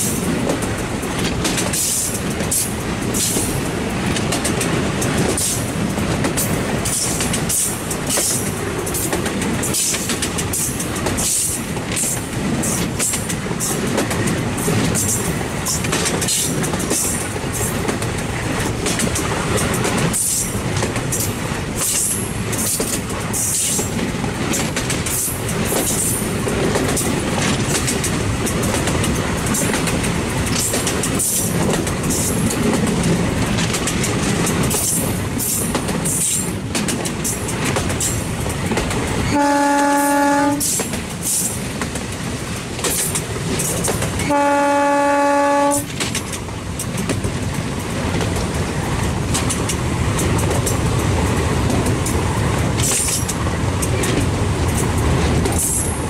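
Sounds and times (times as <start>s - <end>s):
sharp rail clicks: 0.0s - 44.4s, 45.5s - 56.0s
train wheels rumbling on rails: 0.0s - 56.0s.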